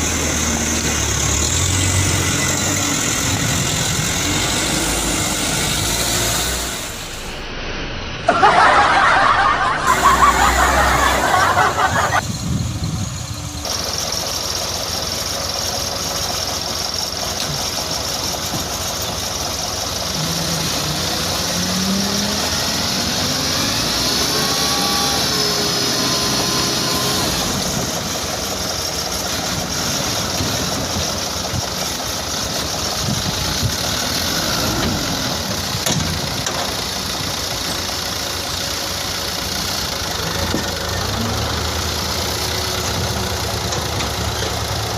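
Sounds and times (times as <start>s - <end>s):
truck engine running: 0.0s - 7.5s, 8.3s - 44.9s.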